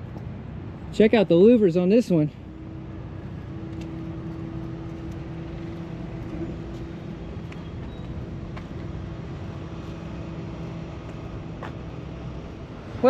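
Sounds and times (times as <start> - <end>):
vehicle engine rumble: 0.0 - 13.0
droning hum: 2.1 - 13.0.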